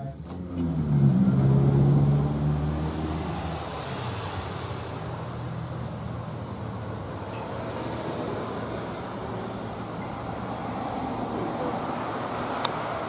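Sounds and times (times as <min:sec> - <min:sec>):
traffic noise: 0:00.0 - 0:13.0
vehicle passing: 0:00.3 - 0:13.0.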